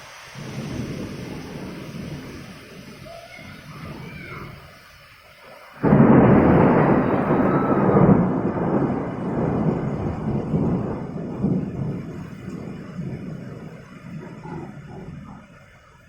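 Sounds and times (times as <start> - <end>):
thunder clap and rumbling: 0.0 - 5.1, 5.8 - 16.0
heavy rain: 0.0 - 16.0.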